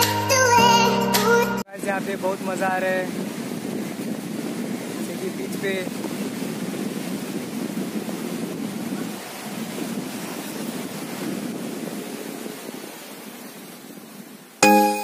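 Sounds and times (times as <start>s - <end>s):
sea surf washing on beach: 1.6s - 15.0s
wind buffeting microphone: 1.7s - 14.6s.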